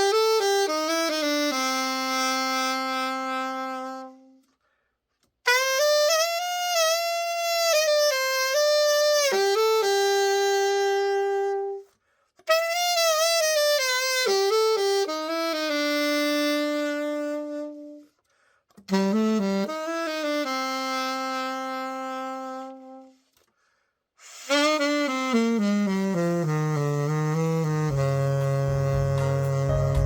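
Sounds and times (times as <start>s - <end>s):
alto saxophone playing solo: 0.0s - 4.8s, 5.4s - 23.4s, 24.2s - 30.0s.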